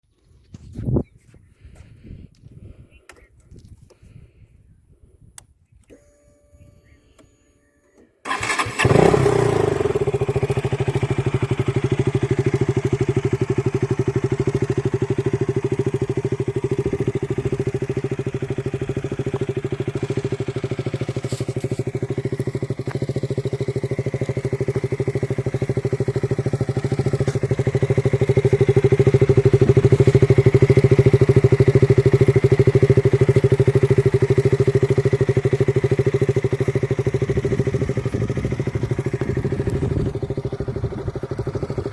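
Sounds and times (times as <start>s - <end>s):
motorcycle engine starting and idling: 8.0s - 41.9s.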